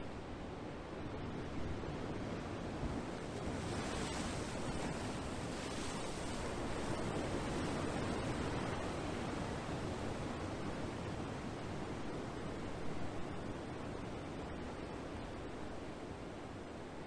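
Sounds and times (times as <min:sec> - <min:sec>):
ocean waves washing ashore: 0:00.1 - 0:17.0.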